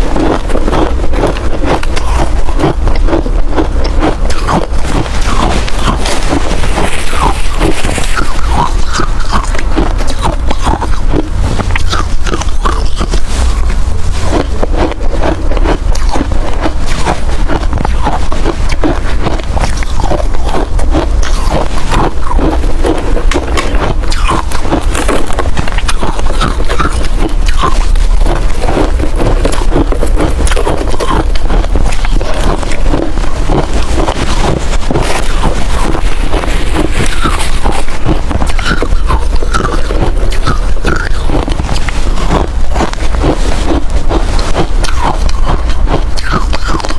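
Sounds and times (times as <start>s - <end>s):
ice crunching being chewed: 0.0s - 46.9s
steady low rumble: 0.0s - 46.9s.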